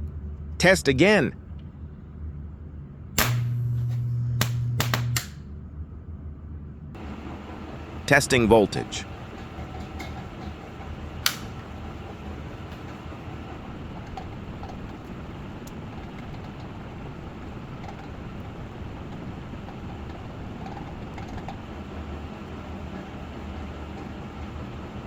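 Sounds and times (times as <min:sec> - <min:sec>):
transformer humming: 0:00.0 - 0:25.0.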